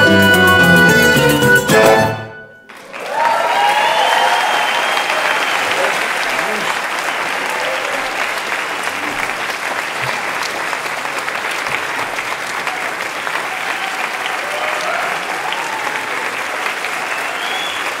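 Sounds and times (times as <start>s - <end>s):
audience applauding: 2.6s - 18.0s.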